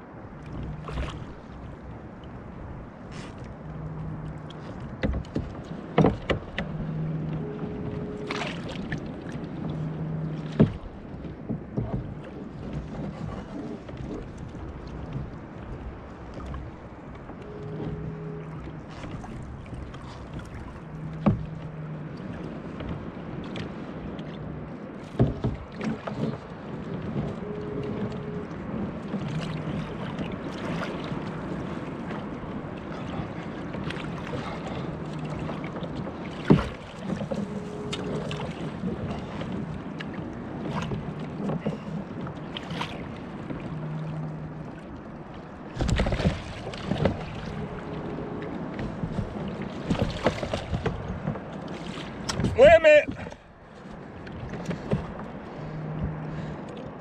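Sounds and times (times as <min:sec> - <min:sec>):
water lapping against kayak hull: 0:00.0 - 0:57.0
gear knocking against boat: 0:00.4 - 0:57.0.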